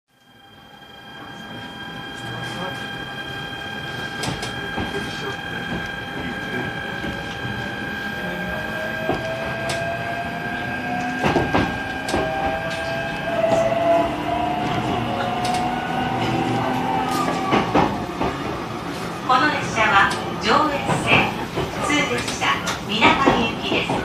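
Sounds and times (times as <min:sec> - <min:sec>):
electric train motor whine: 0:00.2 - 0:23.1.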